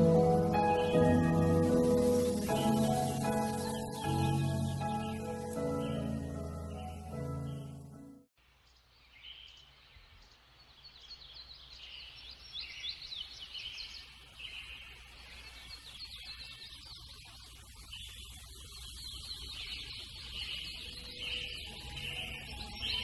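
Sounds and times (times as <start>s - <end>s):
songbirds chirping and singing: 0.0s - 7.8s, 8.7s - 23.0s.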